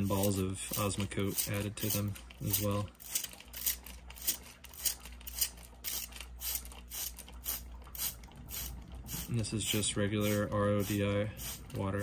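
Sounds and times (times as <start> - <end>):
spray bottle squirting water: 0.0 - 12.0.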